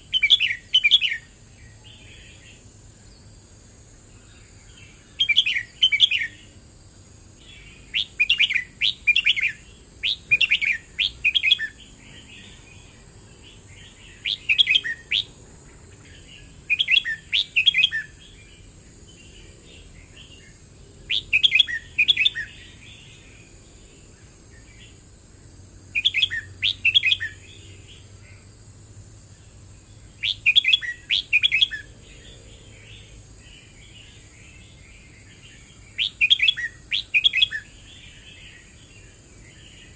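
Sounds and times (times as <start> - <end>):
bird singing warbled phrases: 0.0 - 25.1, 25.8 - 28.5, 29.2 - 39.9.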